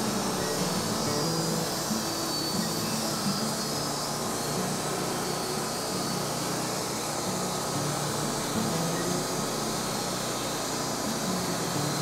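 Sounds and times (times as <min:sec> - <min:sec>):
band sawmill running: 0:00.0 - 0:12.0.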